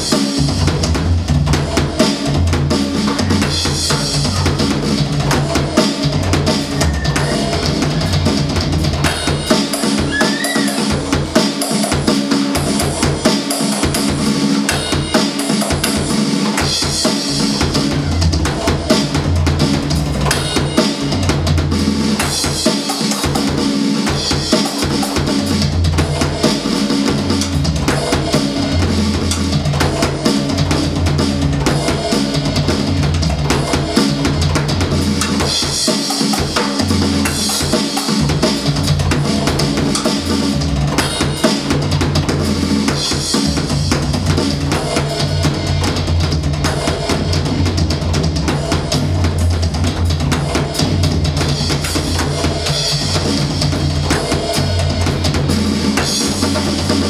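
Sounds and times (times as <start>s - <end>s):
electronic drum kit solo: 0.0s - 57.0s.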